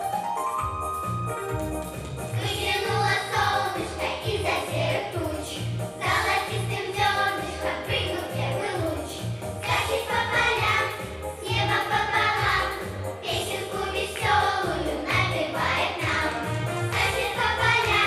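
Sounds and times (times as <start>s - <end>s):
cheerful song with singing: 1.9s - 18.0s.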